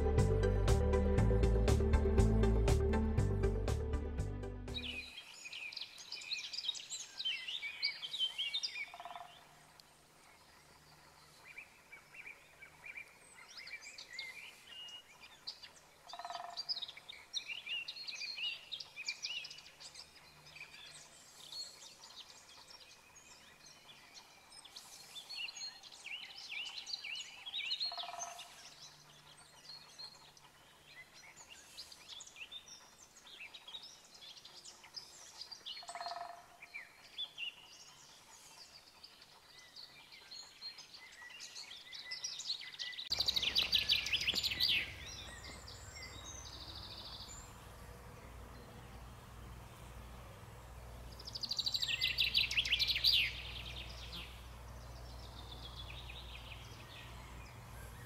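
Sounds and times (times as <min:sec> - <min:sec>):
small birds chirping: 0:04.7 - 0:58.0.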